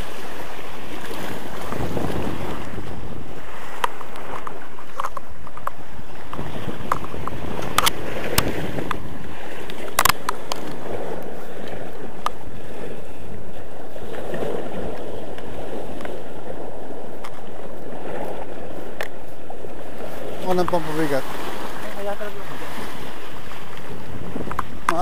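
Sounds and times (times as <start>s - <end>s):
surf washing against rocks: 0.0s - 25.0s
wind buffeting microphone: 0.0s - 25.0s.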